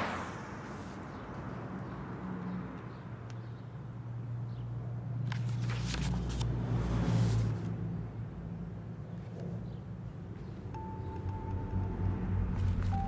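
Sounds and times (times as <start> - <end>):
vehicle passing: 0.0 - 4.4, 5.0 - 8.9, 10.3 - 13.0
street traffic rumble: 0.0 - 13.0.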